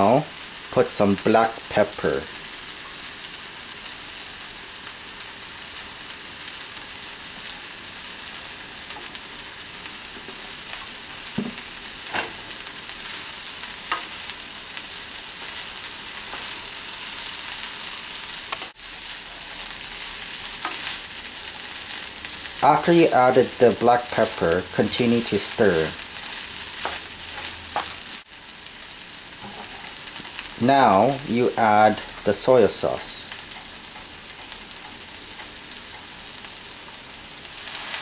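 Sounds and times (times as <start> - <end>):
rice sizzling in a frying pan: 0.0 - 38.0.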